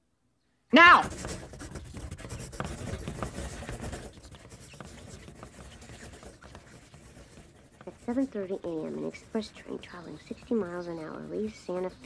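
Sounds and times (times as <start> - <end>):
pencils scratching on paper: 0.8 - 12.0.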